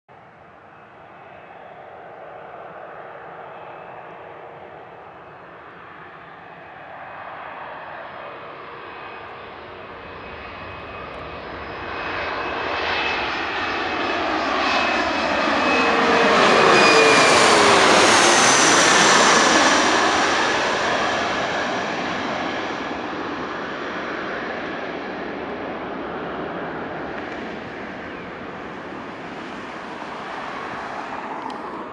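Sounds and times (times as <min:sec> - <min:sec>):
jet flying low overhead: 0:00.1 - 0:31.9.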